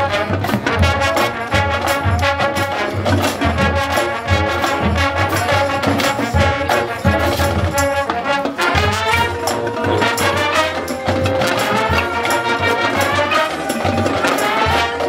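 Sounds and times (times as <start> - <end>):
marching band brass: 0.0 - 15.0
bass drum beats: 0.1 - 15.0.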